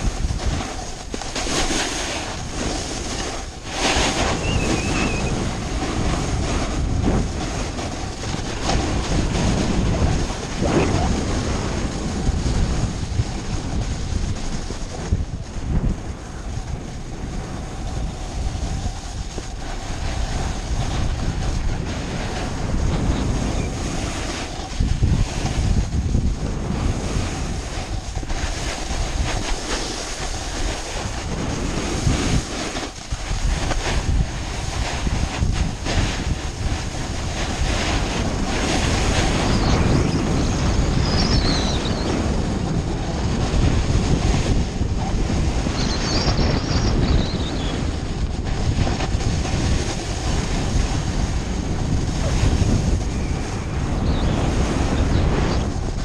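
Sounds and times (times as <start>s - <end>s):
snowboard scraping over snow: 0.0s - 56.0s
wind buffeting microphone: 0.0s - 56.0s.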